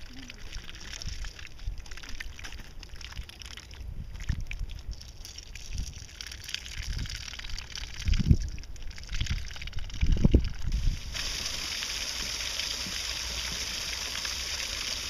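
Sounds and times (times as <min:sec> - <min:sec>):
trickling water: 0:00.0 - 0:15.0.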